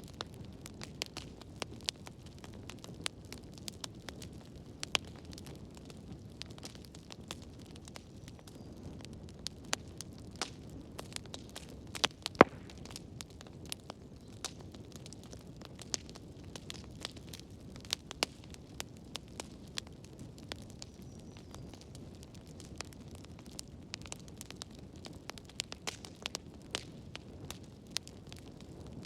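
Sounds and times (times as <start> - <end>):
fire popping and snapping: 0.0 - 29.0
wood fire crackling: 0.0 - 29.0.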